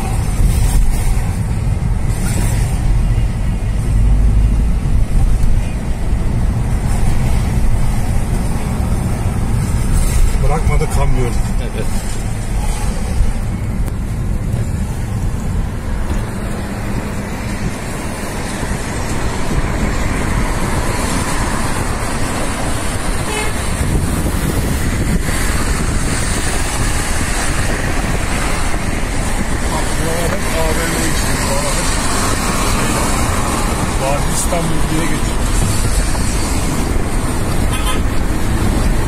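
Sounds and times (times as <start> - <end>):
car engine and tyre rumble: 0.0 - 39.0
trucks and cars passing: 0.0 - 39.0.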